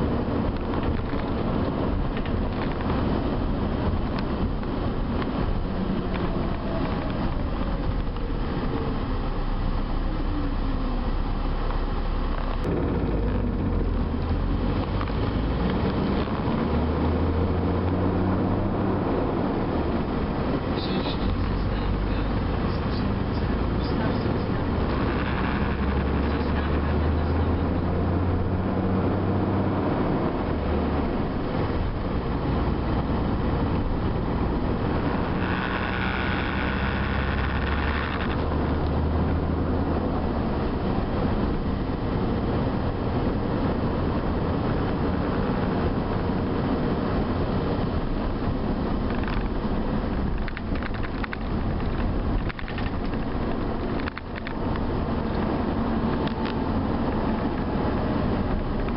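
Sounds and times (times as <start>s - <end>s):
bus engine: 0.0s - 58.9s
road noise: 0.0s - 58.9s.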